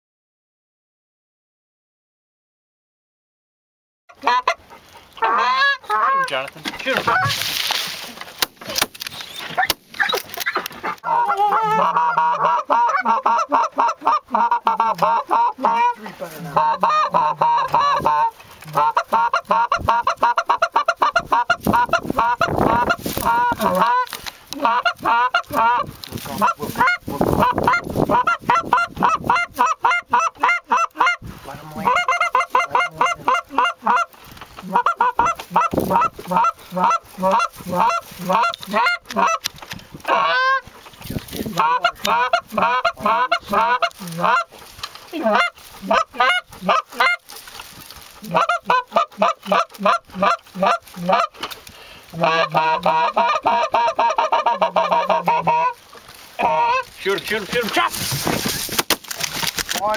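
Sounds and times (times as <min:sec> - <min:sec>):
goose honking and clucking: 0:04.1 - 0:07.9, 0:09.3 - 0:58.7.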